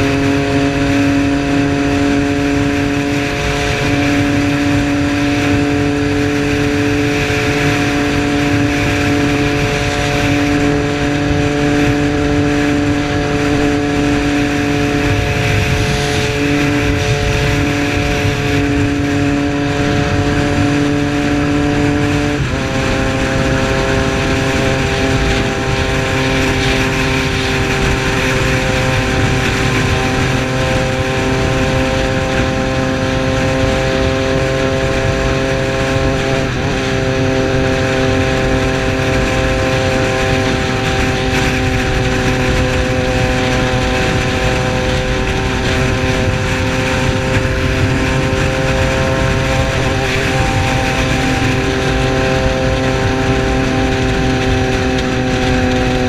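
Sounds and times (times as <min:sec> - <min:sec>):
motorcycle engine cruising: 0:00.0 - 0:56.0
rushing noise: 0:00.0 - 0:56.0.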